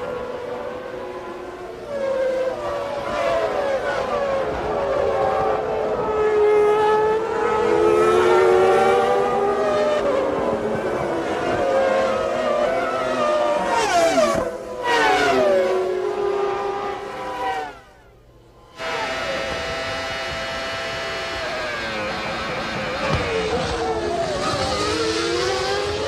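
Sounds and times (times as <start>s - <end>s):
racing car engines at high revs: 0.0s - 26.0s.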